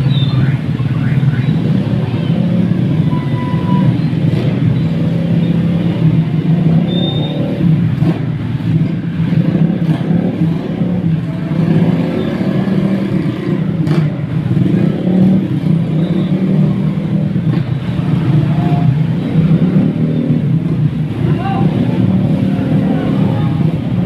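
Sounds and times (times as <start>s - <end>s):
motorcycles and scooters passing: 0.0s - 24.0s.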